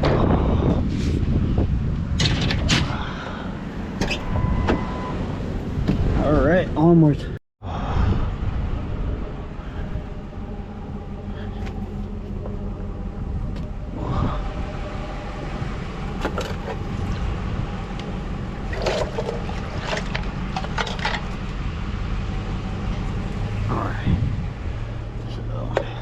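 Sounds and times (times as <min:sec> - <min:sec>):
low engine-like hum: 0:00.0 - 0:26.0.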